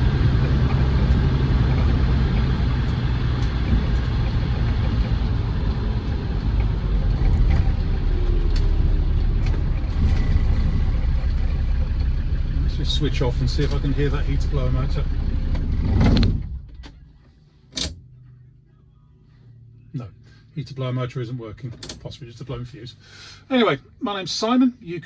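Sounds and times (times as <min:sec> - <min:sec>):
diesel engine running: 0:00.0 - 0:21.4
road noise: 0:00.0 - 0:25.0.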